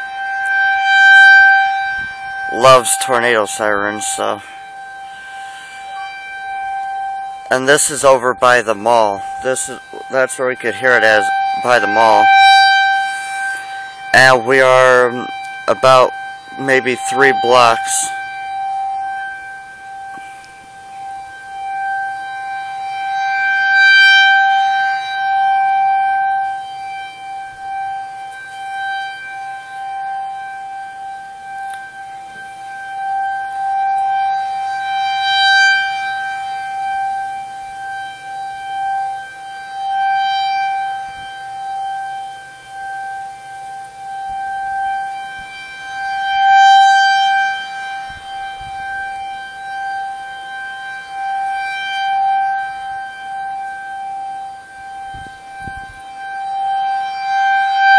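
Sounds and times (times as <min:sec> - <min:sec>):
warning siren steady tone: 0:00.0 - 0:57.9.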